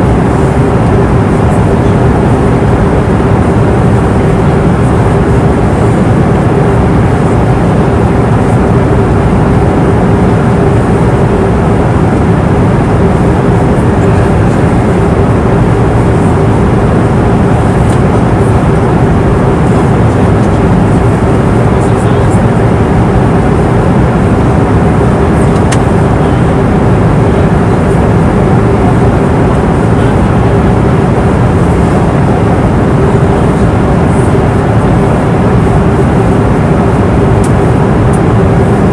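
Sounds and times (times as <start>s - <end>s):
airliner engine and airflow roar: 0.0s - 38.9s
constant cabin hum: 0.0s - 38.9s.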